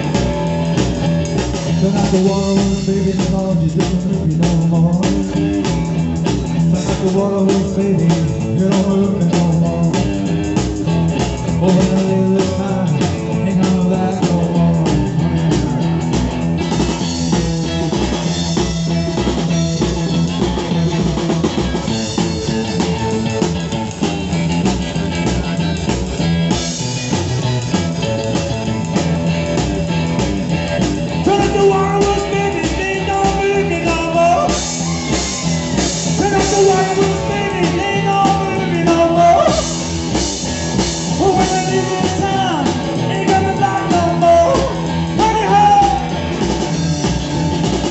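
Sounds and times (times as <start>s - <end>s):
drum kit: 0.0s - 47.9s
electric guitar: 0.0s - 47.9s
rock band playing loudly: 0.0s - 47.9s.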